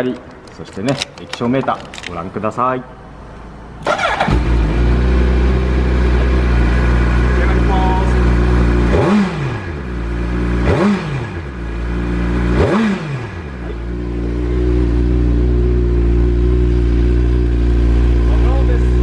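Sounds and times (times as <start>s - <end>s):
motorcycle engine idling and revving: 3.0s - 19.0s.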